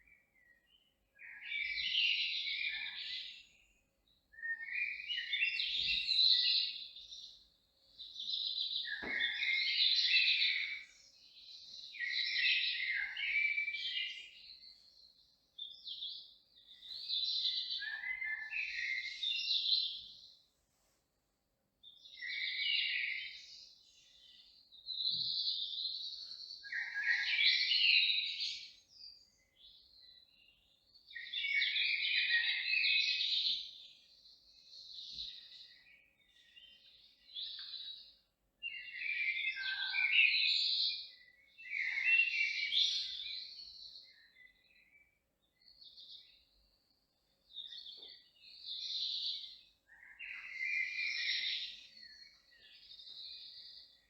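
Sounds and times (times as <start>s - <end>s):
songbird chirping: 0.0s - 20.4s, 21.8s - 54.0s.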